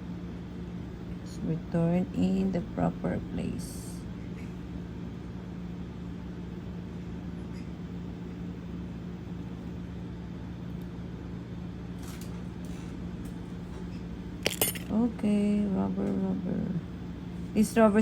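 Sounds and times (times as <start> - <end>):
low electrical motor hum: 0.0 - 18.0.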